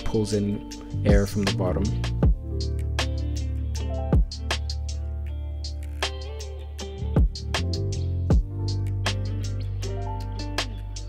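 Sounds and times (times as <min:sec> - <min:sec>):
hip-hop instrumental beat: 0:00.0 - 0:11.0.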